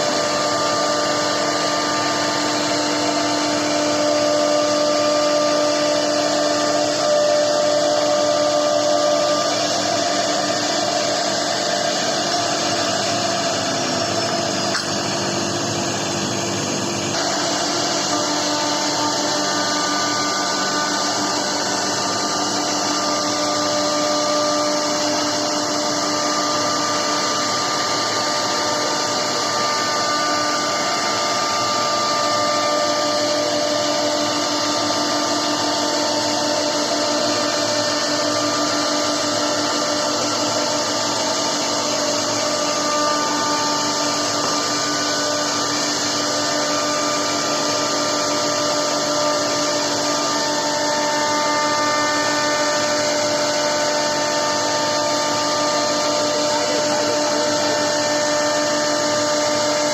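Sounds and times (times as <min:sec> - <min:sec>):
router carving hiss: 0:00.0 - 0:59.9
wood router spindle whine: 0:00.0 - 0:59.9.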